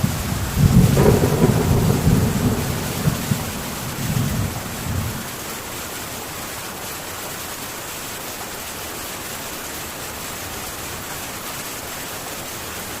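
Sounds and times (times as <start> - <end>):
heavy rain on a tin roof: 0.0 - 13.0.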